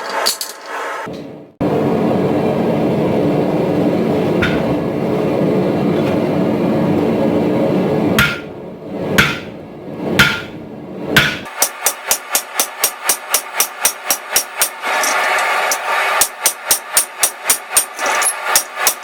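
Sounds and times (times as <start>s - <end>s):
loud mechanical noise: 0.0s - 19.0s.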